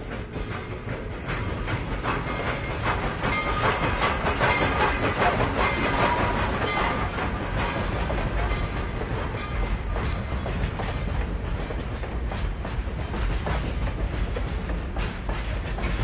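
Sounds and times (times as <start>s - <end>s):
steam train rushing: 0.0s - 16.0s
train wheels clicking on rails: 0.0s - 16.0s.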